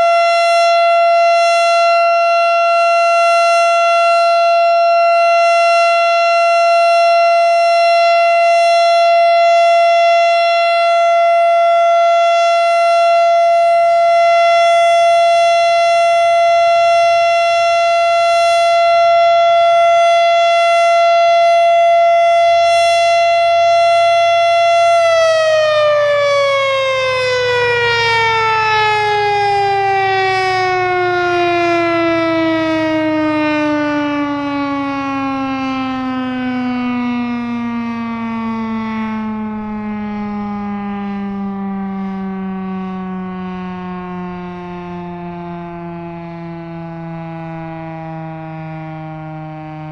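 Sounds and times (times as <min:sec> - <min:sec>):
warning siren: 0:00.0 - 0:49.9.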